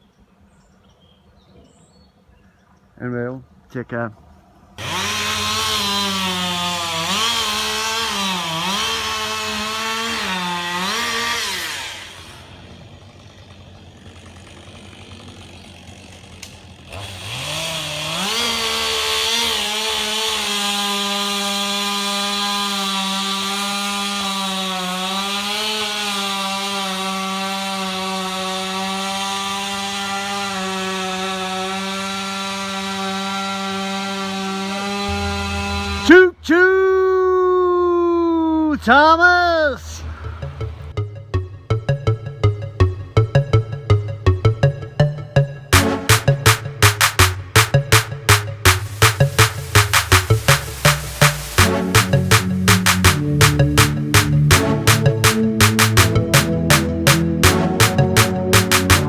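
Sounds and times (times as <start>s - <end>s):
chainsaw cutting wood: 4.8s - 36.3s, 41.9s - 59.0s.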